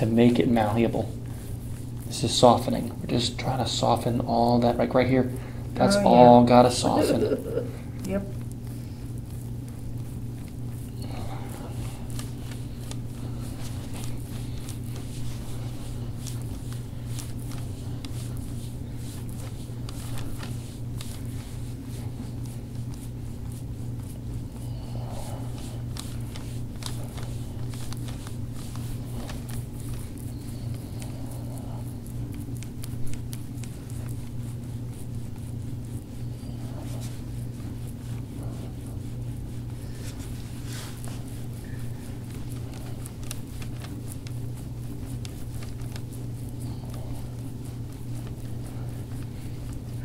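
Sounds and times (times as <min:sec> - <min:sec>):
massage strokes swishing on skin: 0:00.0 - 0:50.0
steady low hum: 0:00.0 - 0:50.0.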